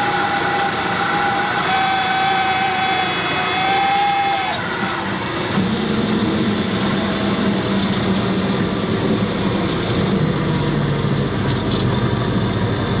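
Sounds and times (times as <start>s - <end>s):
light aircraft engine droning: 0.0s - 13.0s.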